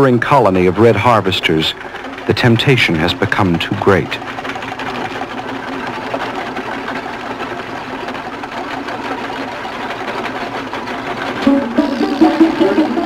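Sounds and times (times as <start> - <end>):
fast mechanical rattling drone: 0.0 - 13.0.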